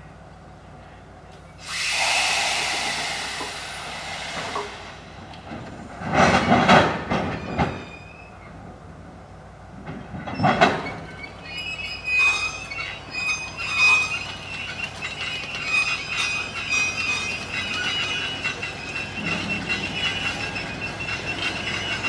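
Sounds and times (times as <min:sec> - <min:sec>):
train coaches rolling past: 0:00.1 - 0:22.0
wheels squealing on rails: 0:01.4 - 0:08.7, 0:10.0 - 0:22.0.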